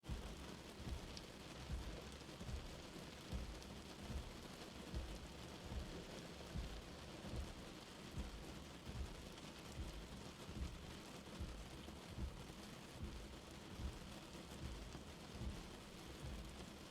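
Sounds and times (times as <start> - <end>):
light rain hissing: 0.0 - 16.9.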